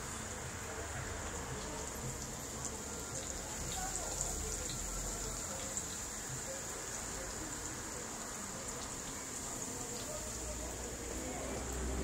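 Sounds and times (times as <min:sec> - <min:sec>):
food sizzling in hot oil: 0:00.0 - 0:12.0
oil popping and crackling: 0:00.0 - 0:12.0.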